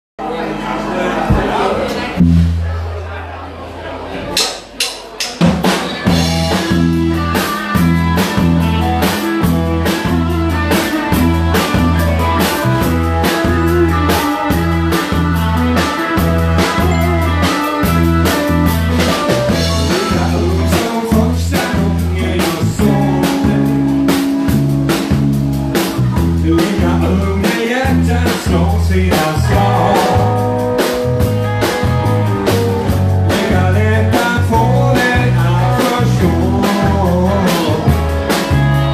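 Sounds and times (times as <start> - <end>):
live band playing honky-tonk: 4.4 - 38.9
prominent bass line: 6.1 - 38.9.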